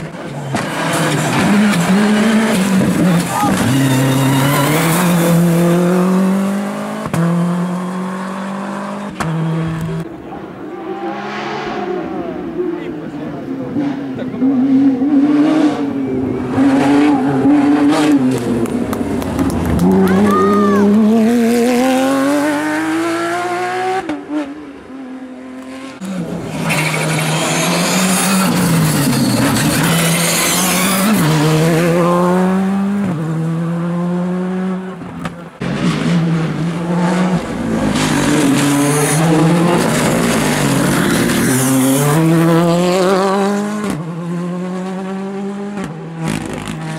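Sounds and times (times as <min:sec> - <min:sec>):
rally car engine accelerating: 0:00.0 - 0:10.1, 0:11.0 - 0:46.9
distant rally car engine: 0:00.0 - 0:46.9.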